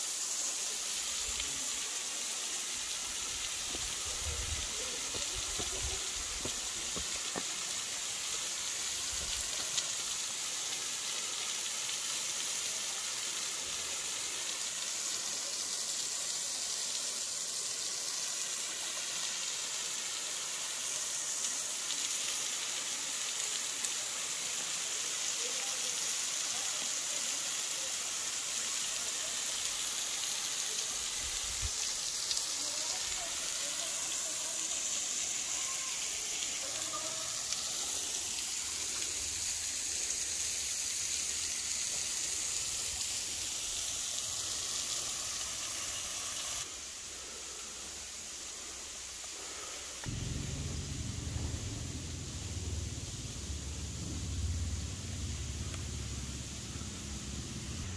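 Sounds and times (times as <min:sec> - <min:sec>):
waterfall rushing onto rocks: 0:00.0 - 0:57.9.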